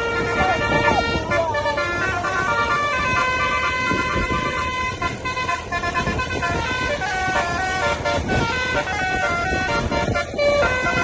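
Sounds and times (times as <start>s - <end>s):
musical bus horn playing tune: 0.0s - 11.0s.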